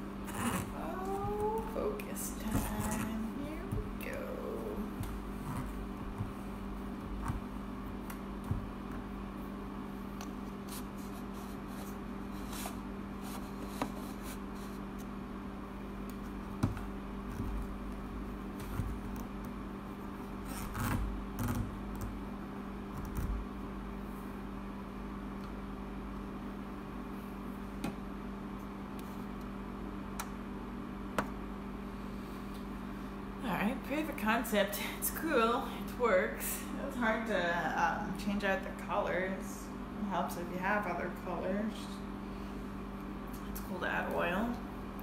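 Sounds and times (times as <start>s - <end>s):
projector fan and motor humming: 0.0s - 45.0s.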